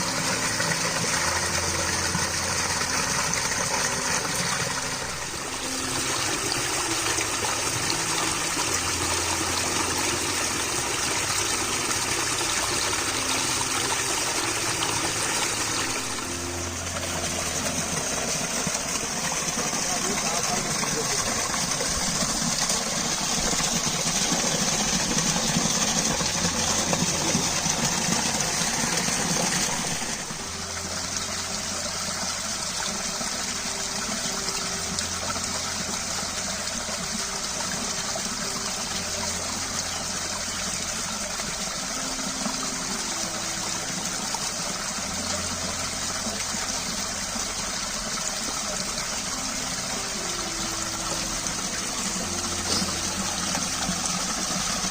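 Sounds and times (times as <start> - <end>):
running water: 0.0 - 54.9.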